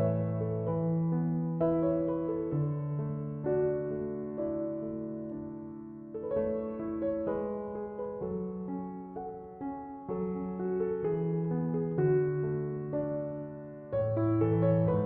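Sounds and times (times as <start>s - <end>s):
electric piano melody: 0.0s - 15.0s.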